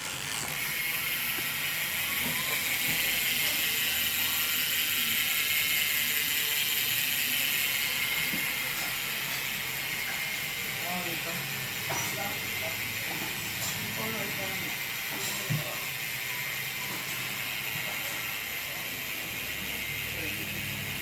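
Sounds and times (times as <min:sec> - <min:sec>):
bicycle hub freewheel buzzing: 0:00.0 - 0:21.0.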